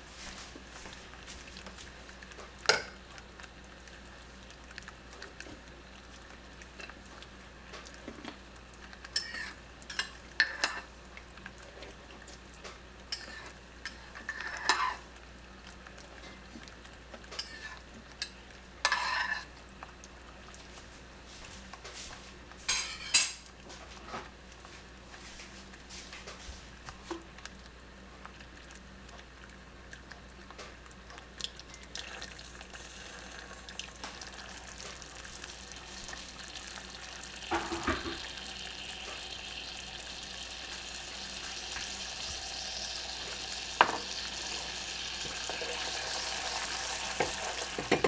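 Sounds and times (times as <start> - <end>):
caramel boiling hiss: 0.0 - 23.5, 31.9 - 48.0
bubbles popping and sizzling: 0.6 - 20.7, 27.2 - 48.0.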